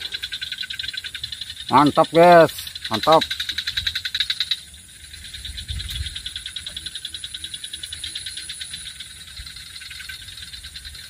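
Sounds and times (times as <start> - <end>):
frogs and insects calling: 0.0 - 11.0.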